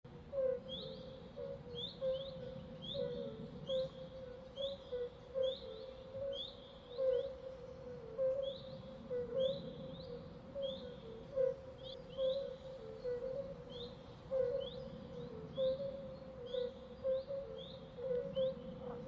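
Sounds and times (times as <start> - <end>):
lower repeated calls: 0.1 - 19.0.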